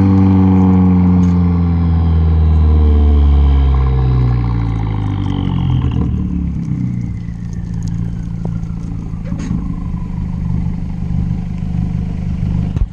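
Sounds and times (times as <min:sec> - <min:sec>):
car exhaust pulsing idle: 0:00.0 - 0:12.9
high whine falling in pitch: 0:00.0 - 0:12.9.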